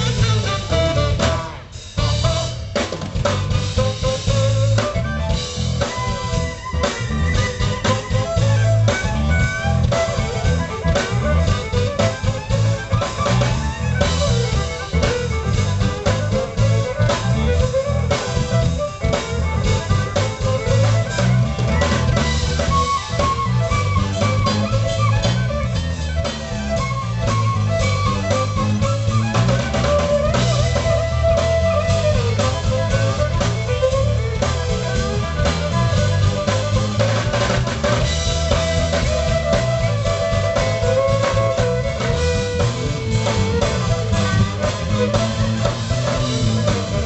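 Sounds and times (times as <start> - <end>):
drum kit: 0.0 - 47.0
electric bass: 0.0 - 47.0
keyboard: 0.0 - 47.0
violin melody: 0.0 - 47.0.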